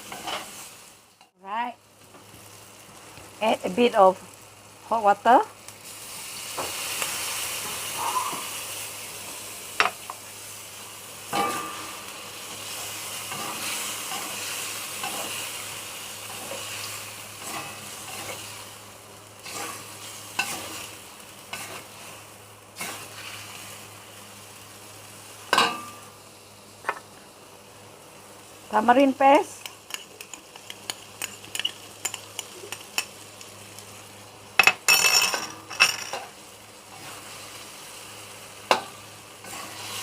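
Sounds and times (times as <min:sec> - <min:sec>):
fish and paste sizzling in a pan: 0:00.0 - 0:40.0.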